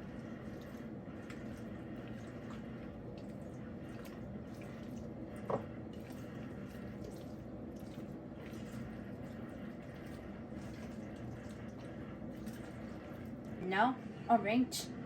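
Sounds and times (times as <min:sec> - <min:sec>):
wet squishing of food mixing: 0:00.0 - 0:13.6.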